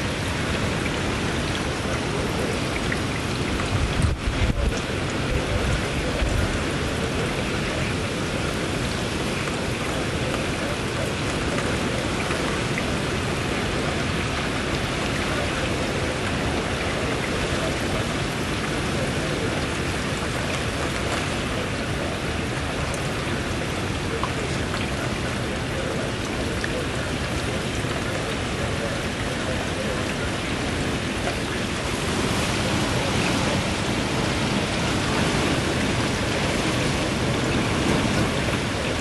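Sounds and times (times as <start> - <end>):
heavy rain hissing: 0.0 - 39.0
low rumble of wind gust: 0.0 - 39.0
wind: 0.0 - 39.0.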